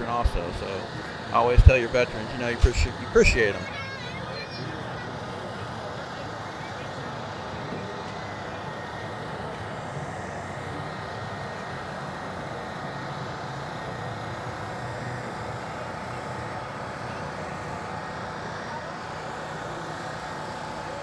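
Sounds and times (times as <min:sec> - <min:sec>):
faint steady tones: 0:00.0 - 0:21.0
steady engine drone: 0:00.0 - 0:21.0.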